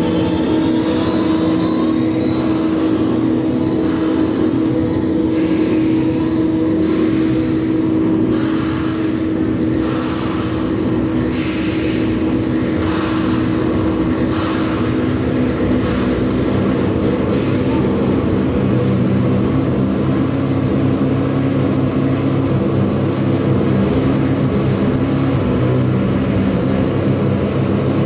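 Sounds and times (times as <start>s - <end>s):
steady low drone: 0.0s - 28.0s.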